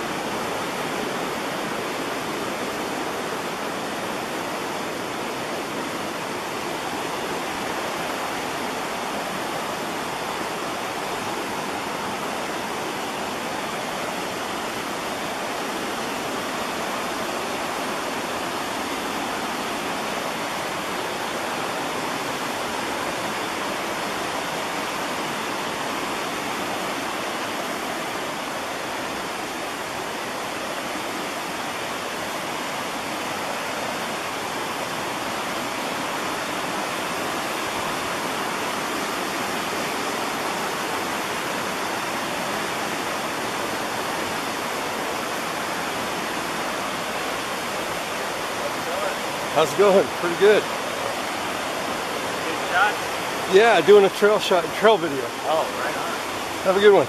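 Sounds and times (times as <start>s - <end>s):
creek rushing over rocks: 0.0s - 57.0s.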